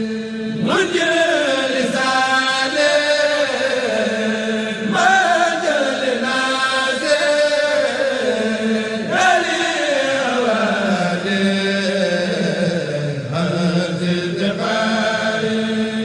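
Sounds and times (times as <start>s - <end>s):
person chanting: 0.0s - 16.0s.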